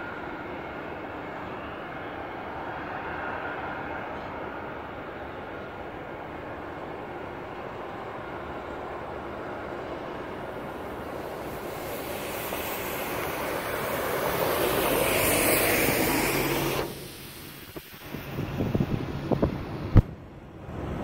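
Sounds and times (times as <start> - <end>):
bus engine and tyres rumbling: 0.0 - 21.0.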